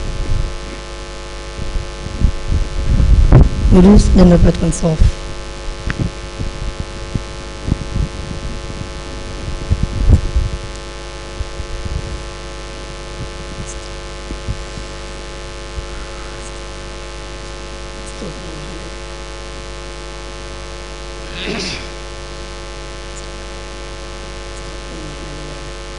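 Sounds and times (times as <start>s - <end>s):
electrical mains hum: 0.0s - 25.9s.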